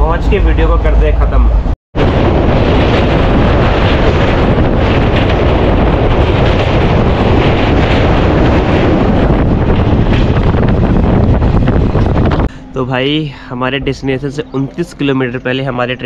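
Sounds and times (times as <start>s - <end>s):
wind rushing over microphone: 0.0s - 14.2s
train running noise: 0.0s - 16.0s.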